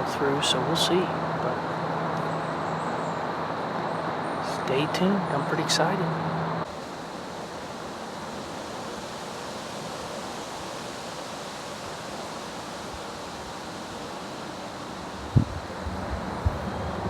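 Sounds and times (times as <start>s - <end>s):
light rain in trees: 0.0s - 17.0s
wind in trees: 0.0s - 17.0s.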